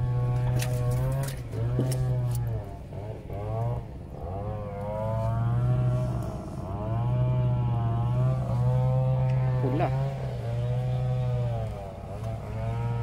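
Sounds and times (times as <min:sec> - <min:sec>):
low hum: 0:00.0 - 0:13.0
small engine revving: 0:00.0 - 0:13.0.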